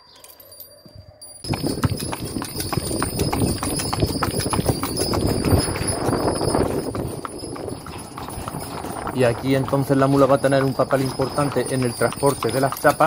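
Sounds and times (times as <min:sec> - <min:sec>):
hooves clip-clopping on asphalt: 0:01.4 - 0:13.0
cart rattling: 0:01.5 - 0:13.0.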